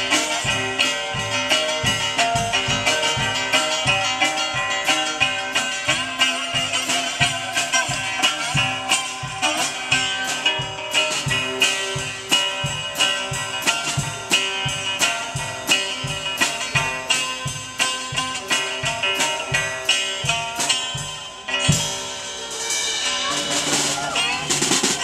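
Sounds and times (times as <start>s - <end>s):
drum kit steady beat: 0.0s - 25.0s
electric guitar playing blues: 0.0s - 25.0s.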